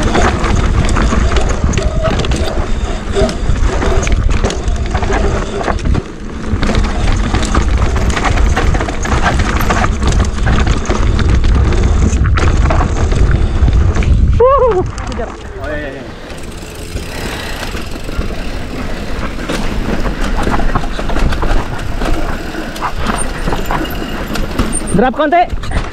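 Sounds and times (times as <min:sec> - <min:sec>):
bike rattling over rocks: 0:00.0 - 0:25.9
wind rumble on microphone: 0:00.0 - 0:25.9.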